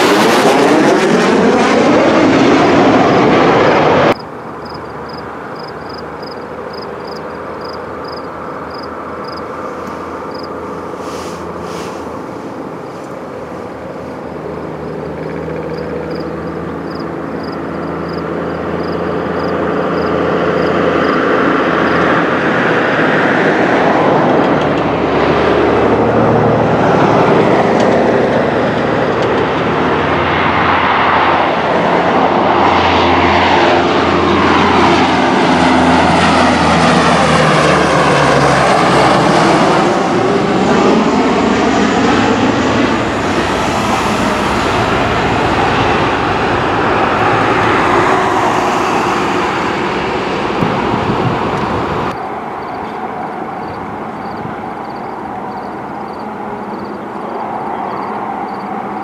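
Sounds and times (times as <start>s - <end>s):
propeller plane passing overhead: 0.0s - 59.0s.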